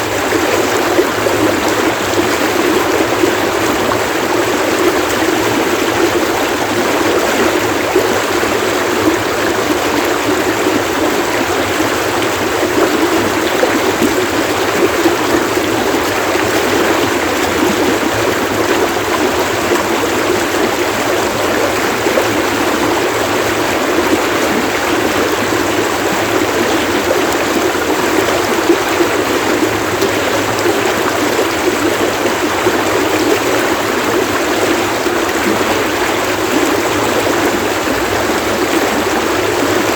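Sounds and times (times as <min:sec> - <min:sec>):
stream water splashing: 0:00.0 - 0:39.9.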